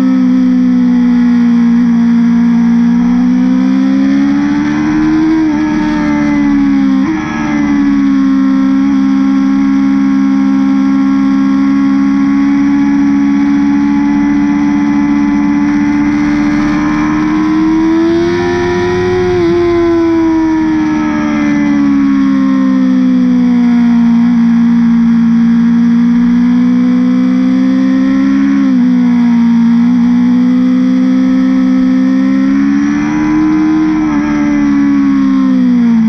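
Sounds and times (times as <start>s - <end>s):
motorcycle engine under load: 0.0s - 36.0s.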